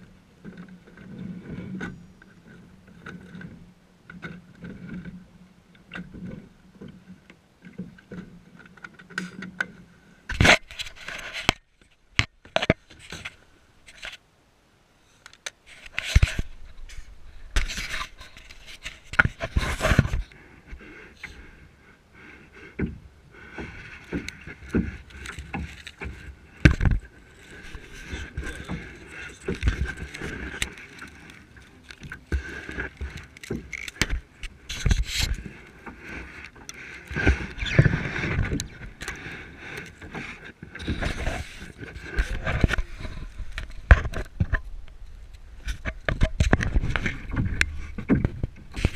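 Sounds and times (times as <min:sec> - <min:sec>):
knocks and scrapes on kayak hull: 0:00.4 - 0:14.2, 0:15.6 - 0:21.4, 0:22.6 - 0:48.9.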